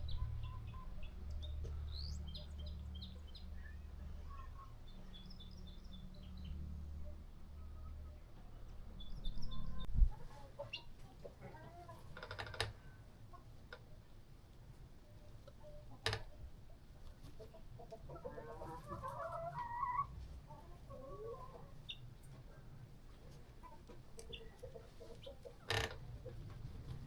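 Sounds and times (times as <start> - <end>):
chickens clucking: 0.0 - 6.6, 7.8 - 27.0.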